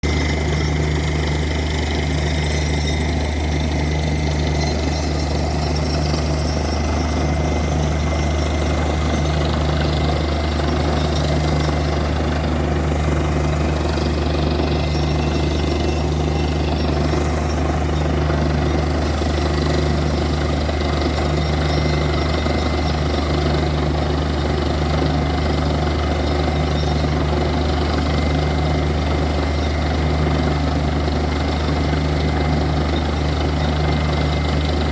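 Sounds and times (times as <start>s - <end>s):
drilling rig engine drone: 0.0s - 34.9s.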